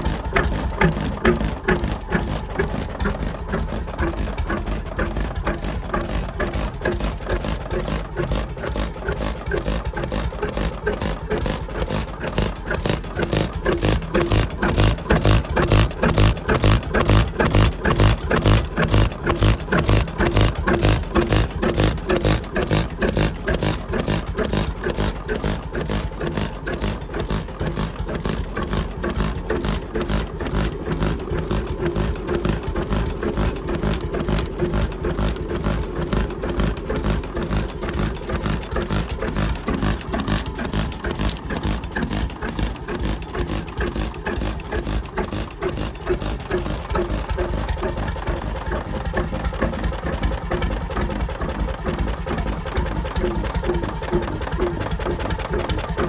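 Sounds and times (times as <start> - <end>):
stationary engine running: 0.0 - 56.0.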